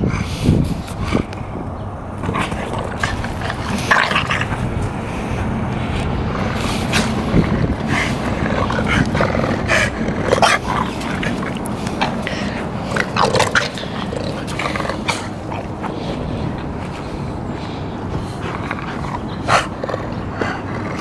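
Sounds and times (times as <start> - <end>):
dogs play growling: 0.0 - 21.0.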